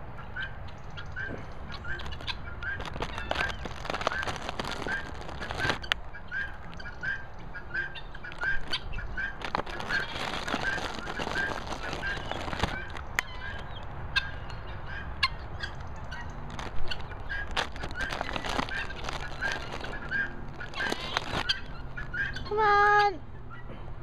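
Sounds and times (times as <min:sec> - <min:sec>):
guinea fowl calling: 0:00.2 - 0:22.6.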